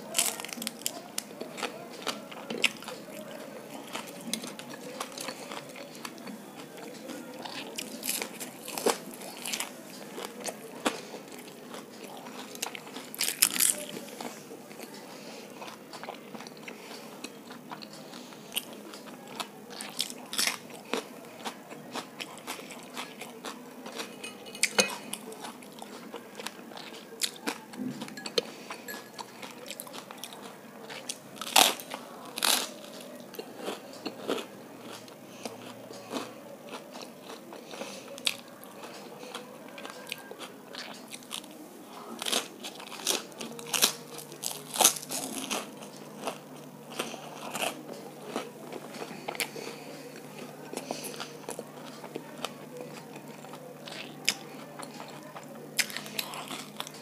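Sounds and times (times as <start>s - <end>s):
wet chewing: 0.1s - 57.0s.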